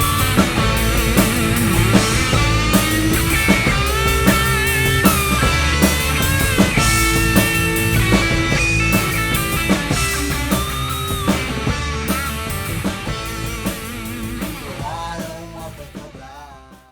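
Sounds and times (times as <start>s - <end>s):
rock song with guitar and drums: 0.0s - 16.9s.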